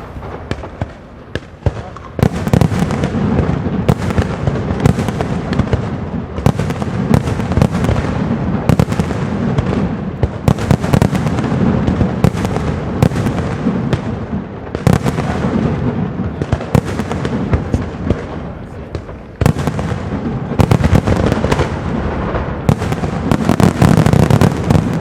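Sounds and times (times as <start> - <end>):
fireworks bursts and crackle: 0.0 - 25.0
sharp fireworks bangs: 0.0 - 25.0.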